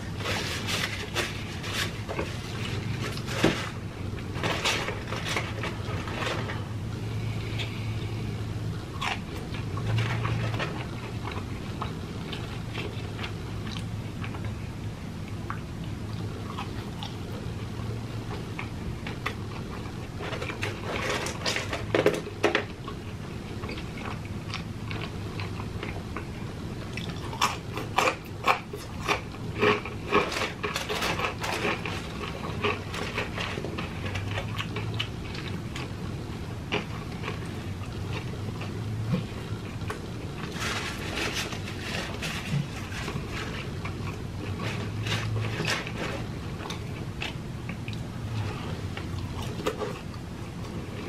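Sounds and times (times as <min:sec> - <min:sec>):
person chewing crunchy fries: 0:00.0 - 0:51.0.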